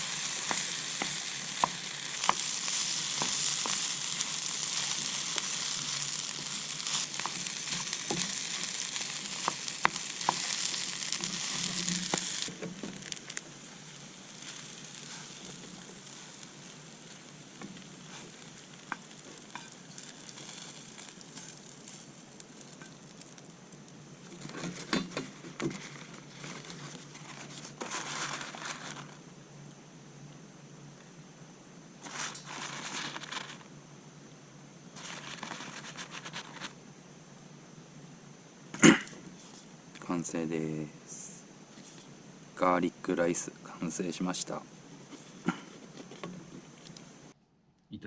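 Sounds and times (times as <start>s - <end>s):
rice sizzling in a pan: 0.0s - 47.4s.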